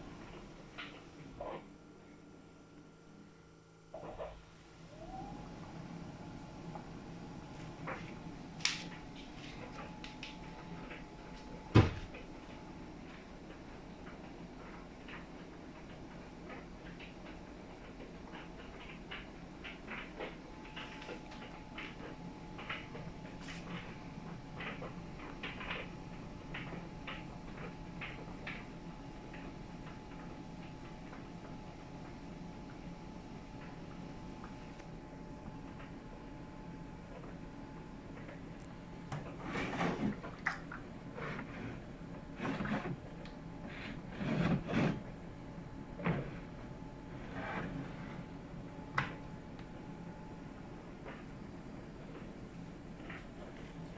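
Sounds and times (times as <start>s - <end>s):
dryer motor low hum: 0.0s - 53.9s
faint steady whine: 0.0s - 53.9s.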